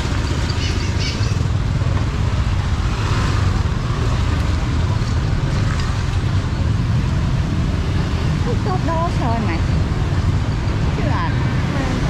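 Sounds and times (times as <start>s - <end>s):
motorbike engine rumbling: 0.0s - 12.0s.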